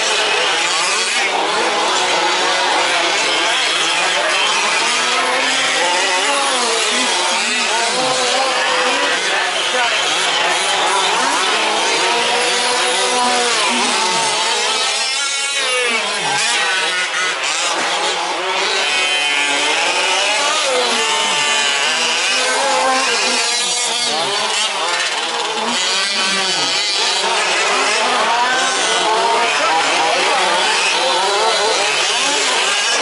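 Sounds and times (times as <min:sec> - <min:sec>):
small two-stroke engines racing: 0:00.0 - 0:33.0.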